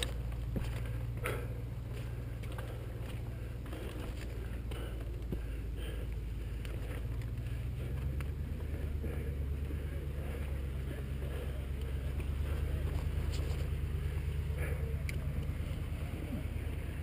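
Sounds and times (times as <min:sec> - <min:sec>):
bike tyres rolling on rock: 0:00.0 - 0:17.0.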